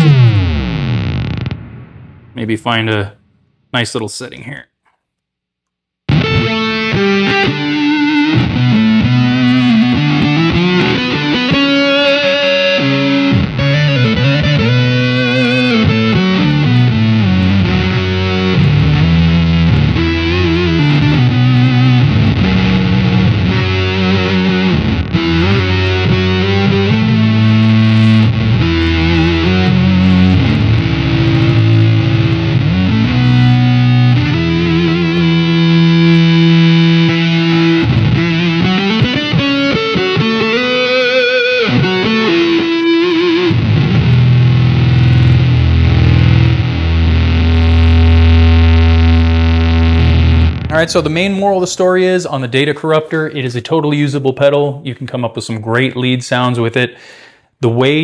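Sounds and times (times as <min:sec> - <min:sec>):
synth-like electric guitar: 0:00.0 - 0:02.4, 0:06.1 - 0:51.1.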